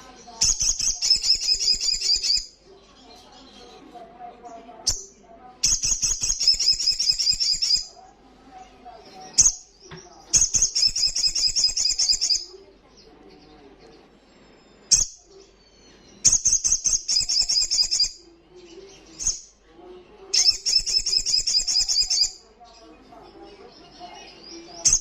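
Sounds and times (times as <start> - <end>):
songbird chattering song: 0.0 - 19.7, 20.3 - 25.0.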